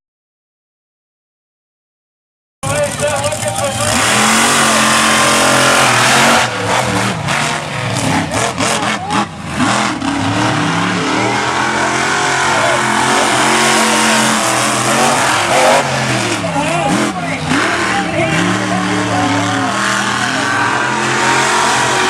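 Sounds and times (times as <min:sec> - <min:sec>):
monster truck engines revving: 0:02.6 - 0:22.0.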